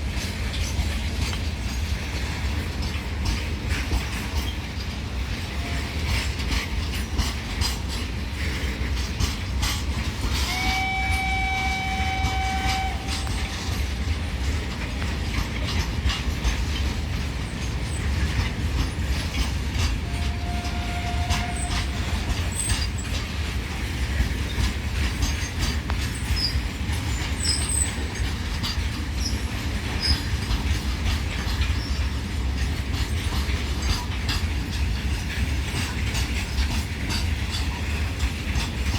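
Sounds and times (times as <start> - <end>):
train rumble: 0.0 - 38.9
train wheels clattering over rails: 0.0 - 38.9.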